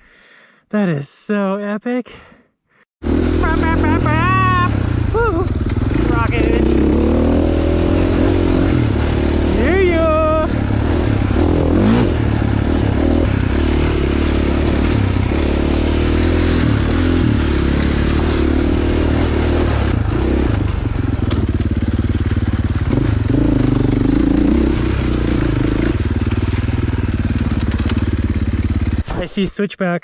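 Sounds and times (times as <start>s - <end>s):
dirt bike engine revving: 3.0s - 29.4s.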